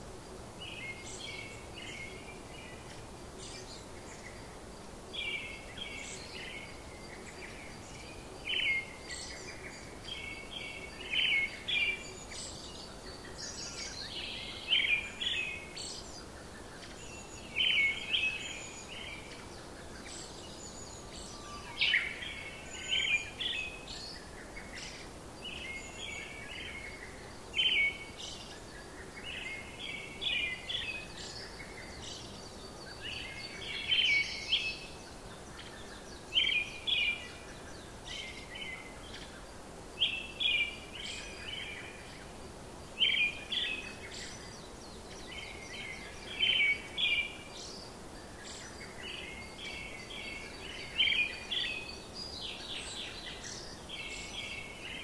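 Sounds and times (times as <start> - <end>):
faint steady hiss: 0.0 - 55.0
small birds chirping: 0.0 - 55.0.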